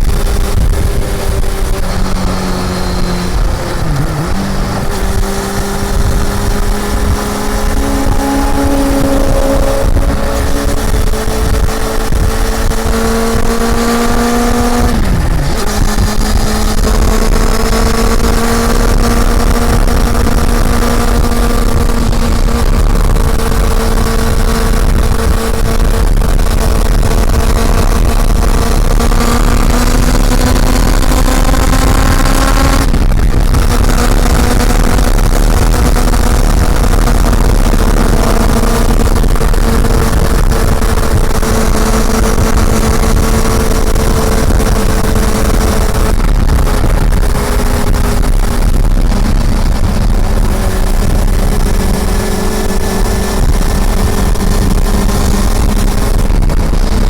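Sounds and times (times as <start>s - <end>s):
motorcycle engine cruising: 0.0s - 57.0s
wind rumble on microphone: 0.0s - 57.0s.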